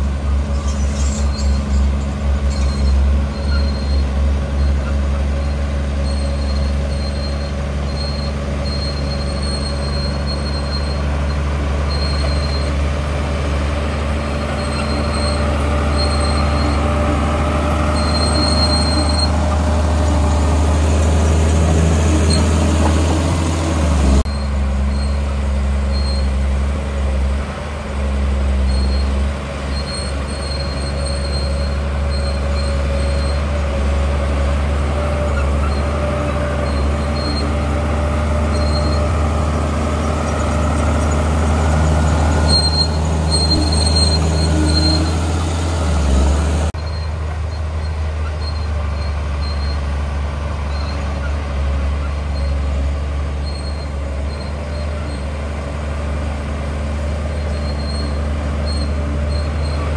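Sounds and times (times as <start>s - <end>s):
diesel engine running under load: 0.0s - 59.9s
steel crawler tracks squeaking: 0.0s - 59.9s.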